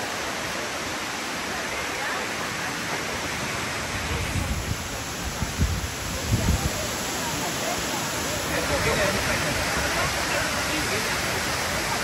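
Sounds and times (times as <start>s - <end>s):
waterfalls rushing: 0.0s - 12.0s.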